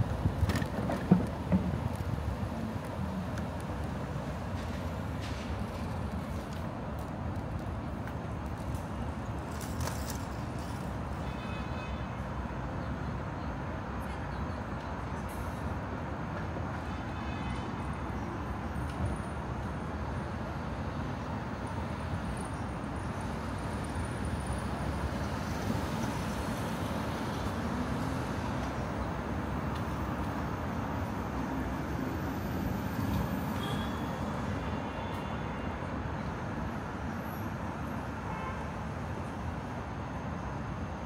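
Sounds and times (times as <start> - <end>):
city traffic passing: 0.0 - 41.0.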